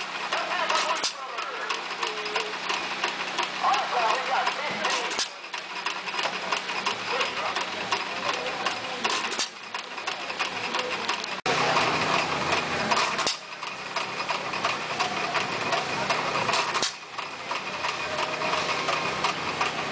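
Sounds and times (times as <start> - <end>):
engine clicking and popping: 0.0 - 19.9.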